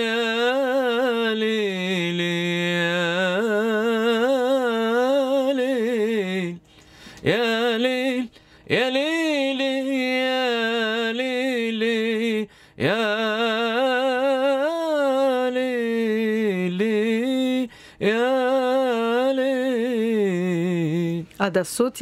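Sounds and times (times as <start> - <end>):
man singing unaccompanied: 0.0 - 21.3.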